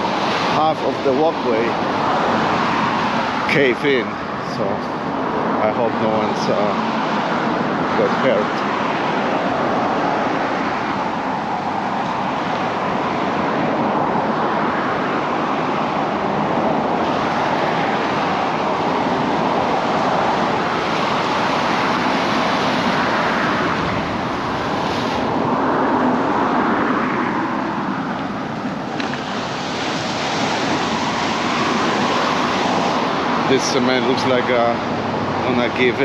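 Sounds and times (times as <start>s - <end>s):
ocean surf rushing: 0.0s - 36.0s.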